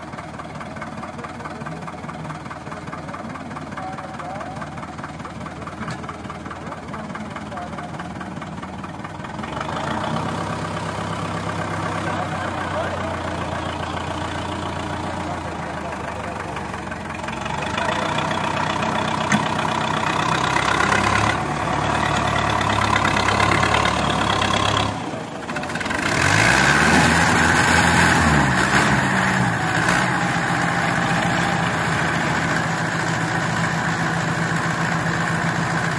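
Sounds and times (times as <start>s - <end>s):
diesel tractor engine: 0.0s - 35.9s
tractor engine starting and revving: 0.0s - 35.9s.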